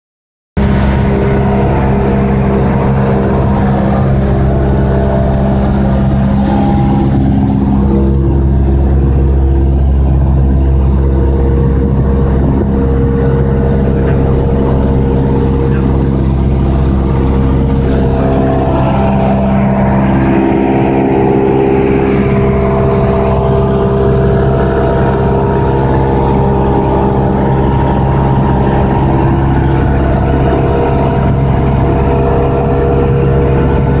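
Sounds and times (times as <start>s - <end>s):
propeller aircraft engine droning: 0.6s - 34.0s.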